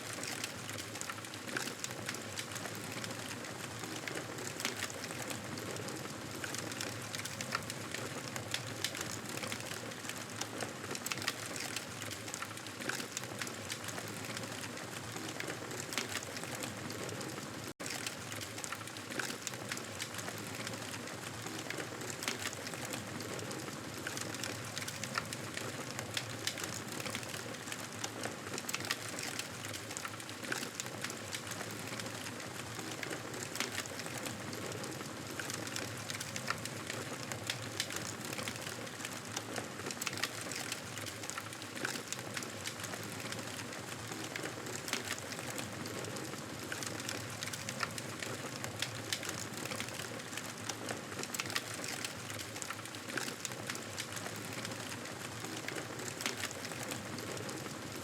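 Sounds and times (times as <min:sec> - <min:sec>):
campfire crackling and popping: 0:00.1 - 0:58.0.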